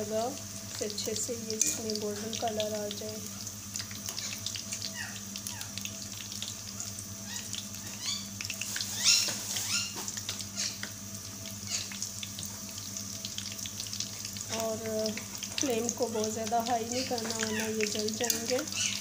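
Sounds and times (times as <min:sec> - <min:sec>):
deep-frying sizzle with pops: 0:00.0 - 0:19.0.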